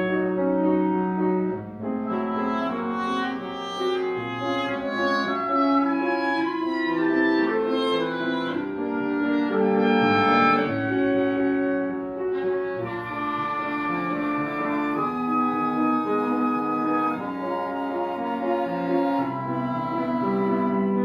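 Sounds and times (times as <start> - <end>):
woodwind quintet playing: 0.0 - 21.0.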